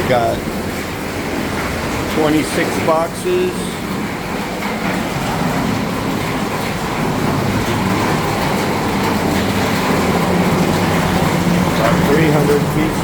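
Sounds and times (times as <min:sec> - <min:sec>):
heavy rain on a roof: 0:00.0 - 0:13.0.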